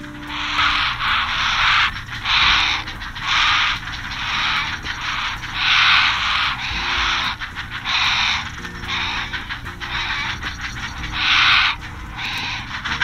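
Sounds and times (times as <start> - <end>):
heron chicks begging calls: 0.0 - 13.0
music with low held notes: 0.0 - 13.0.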